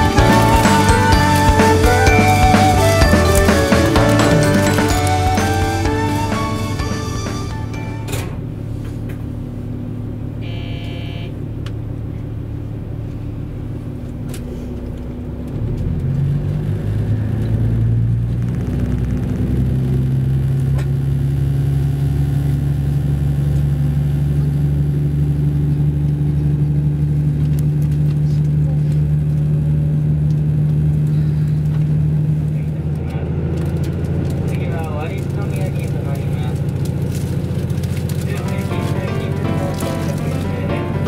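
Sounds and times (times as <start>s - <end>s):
diesel railcar engine: 0.0s - 41.0s.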